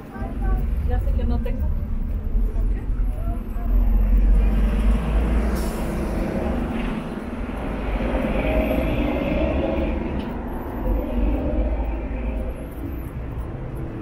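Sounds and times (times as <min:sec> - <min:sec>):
bus engine rumbling: 0:00.0 - 0:14.0
city street traffic: 0:00.0 - 0:14.0
high engine whine: 0:00.0 - 0:14.0.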